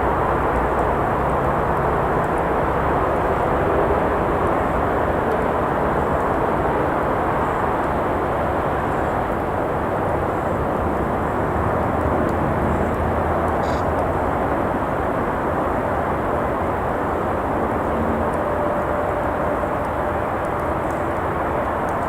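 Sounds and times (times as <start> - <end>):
traffic roar: 0.0 - 22.0.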